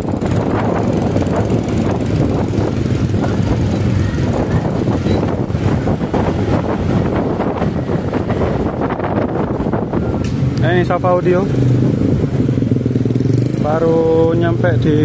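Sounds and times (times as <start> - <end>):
motorcycle engines rumbling: 0.0 - 15.0
road and wind noise: 0.0 - 15.0.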